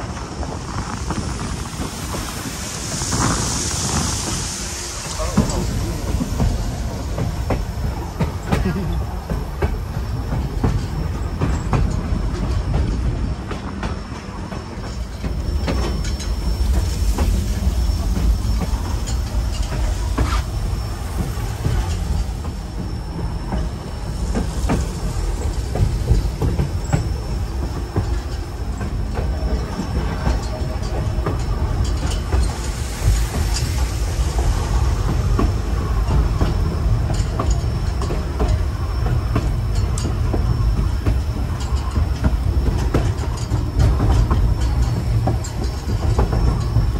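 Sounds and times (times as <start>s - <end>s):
faint high whine: 0.0s - 46.9s
train rumbling: 0.0s - 46.9s
wheels clacking on rails: 0.0s - 46.9s.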